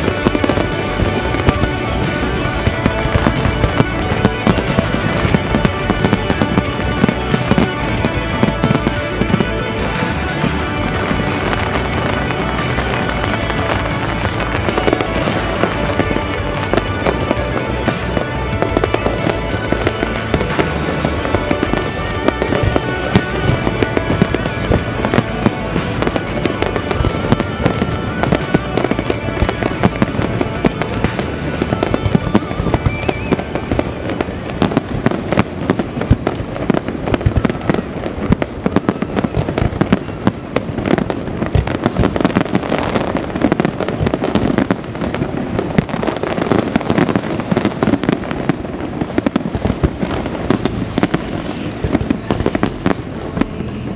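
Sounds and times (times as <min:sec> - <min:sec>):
fireworks bursting and crackling: 0:00.0 - 0:53.9
music playing: 0:00.0 - 0:53.9.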